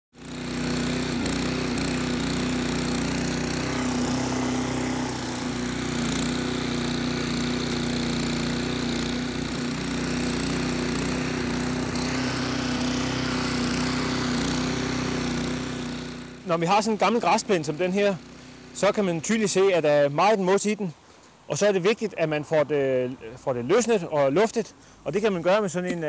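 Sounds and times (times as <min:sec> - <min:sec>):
petrol lawn scarifier running: 0:00.1 - 0:21.4.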